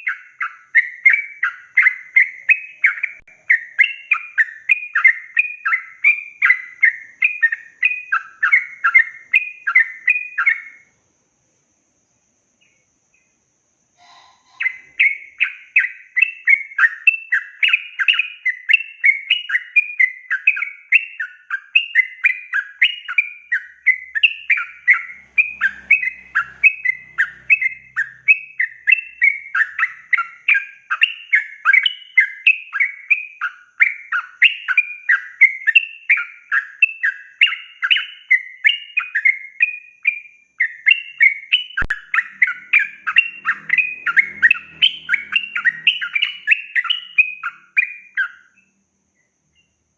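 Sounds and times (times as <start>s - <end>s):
bird singing chattering notes: 0.0s - 10.8s, 14.0s - 40.0s, 40.6s - 48.7s.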